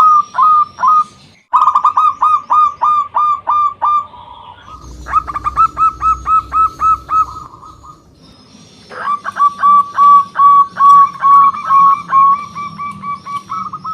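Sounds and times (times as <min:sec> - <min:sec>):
dove cooing: 0:01.8 - 0:13.9.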